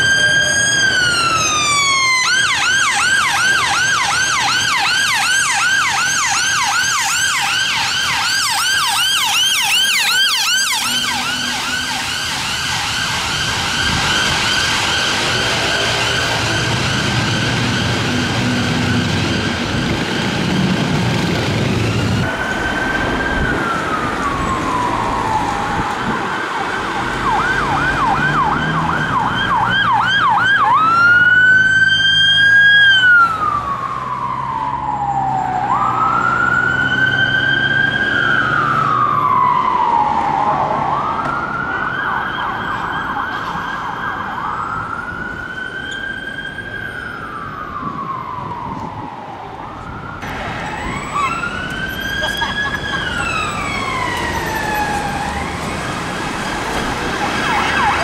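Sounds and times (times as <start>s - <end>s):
ambulance siren: 0.0s - 58.0s
police siren wailing and yelping: 0.0s - 58.0s.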